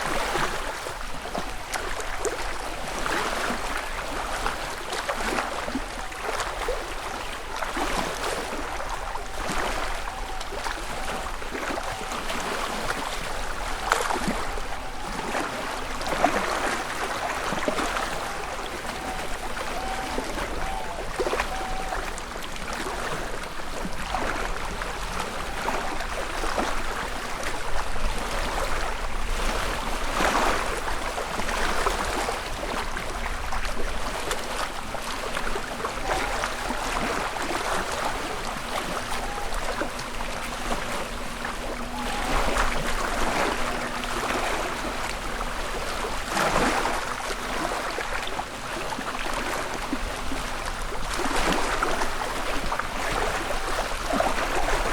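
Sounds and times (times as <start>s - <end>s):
lake waves lapping on shore: 0.0s - 54.9s.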